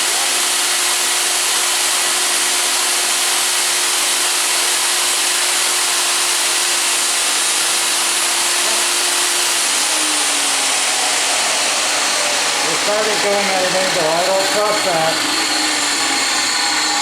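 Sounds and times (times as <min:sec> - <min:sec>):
table saw whining: 0:00.0 - 0:17.0.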